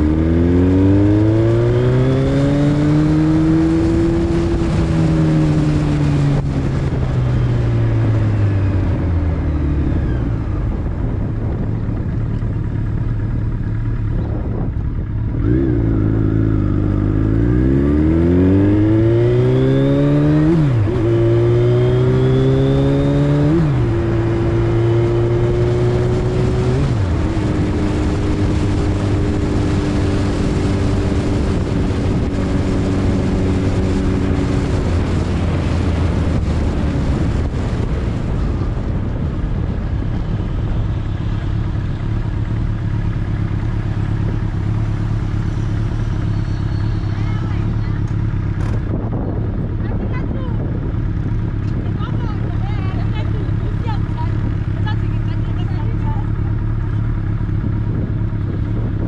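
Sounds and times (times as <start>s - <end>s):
vehicle engine accelerating: 0.0s - 59.0s.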